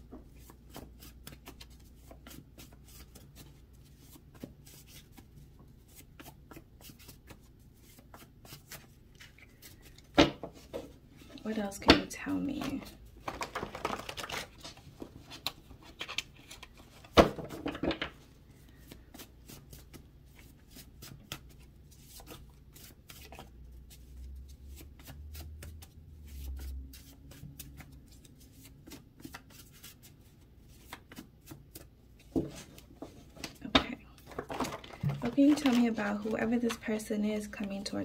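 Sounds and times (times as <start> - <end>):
cards being shuffled: 0.1 - 11.0, 12.5 - 37.0.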